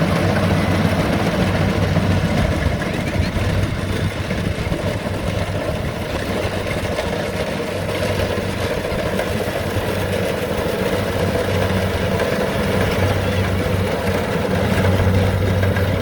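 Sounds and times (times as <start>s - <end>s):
harvester engine running: 0.0s - 16.0s.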